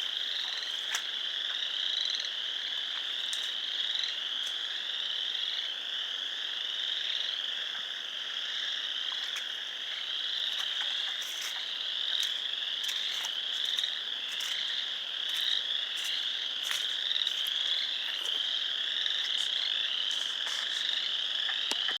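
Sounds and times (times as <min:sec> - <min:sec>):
frog chorus: 0:00.0 - 0:22.0.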